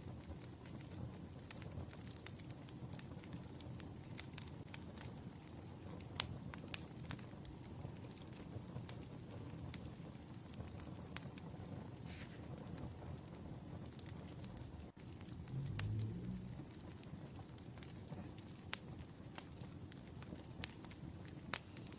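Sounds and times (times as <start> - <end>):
wood fire crackling and popping: 0.0 - 21.9.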